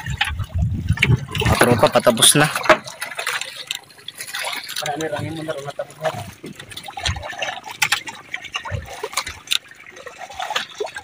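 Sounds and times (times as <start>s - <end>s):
water sloshing against a boat: 0.0s - 11.0s.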